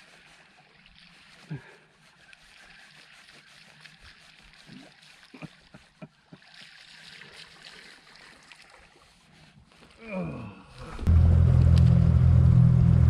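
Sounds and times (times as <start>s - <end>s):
water lapping against boat hull: 0.0s - 11.1s.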